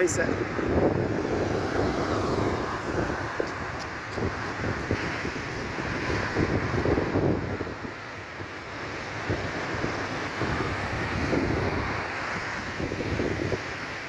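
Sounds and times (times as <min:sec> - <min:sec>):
rough sea rushing: 0:00.0 - 0:14.0
wind buffeting microphone: 0:00.0 - 0:14.0.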